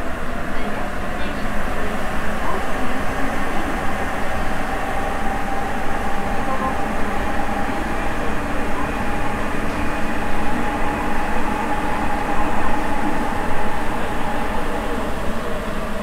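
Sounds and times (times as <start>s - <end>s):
steady train whine: 0.0s - 16.0s
subway train running: 0.0s - 16.0s.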